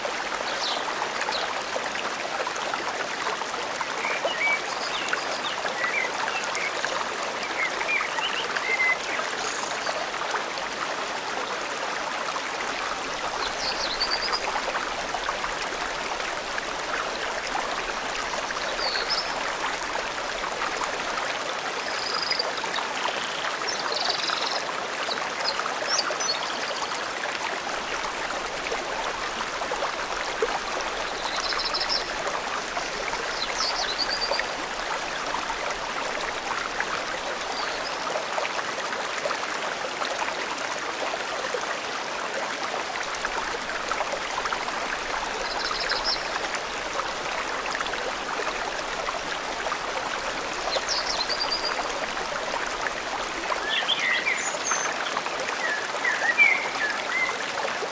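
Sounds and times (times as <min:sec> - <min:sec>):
stream babbling: 0:00.0 - 0:57.9.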